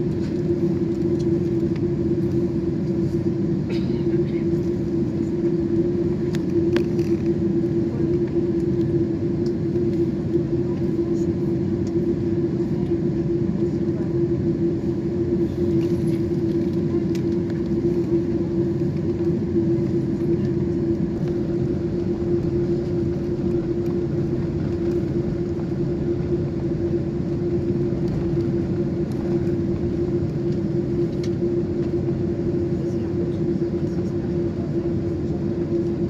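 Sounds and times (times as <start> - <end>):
airplane cabin drone: 0.0 - 36.0.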